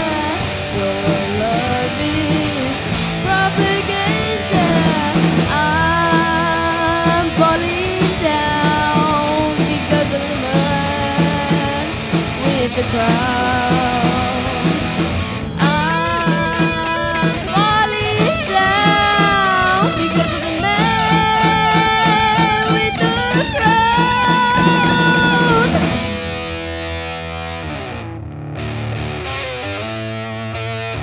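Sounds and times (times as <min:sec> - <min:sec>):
electric guitar passage: 0:00.0 - 0:31.0
live rock band playing: 0:00.0 - 0:31.0.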